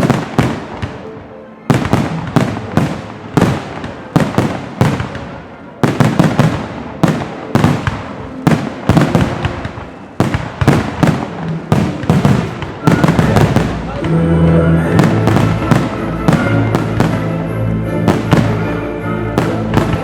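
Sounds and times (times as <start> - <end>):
firework bangs: 0.0 - 18.7, 19.3 - 20.0.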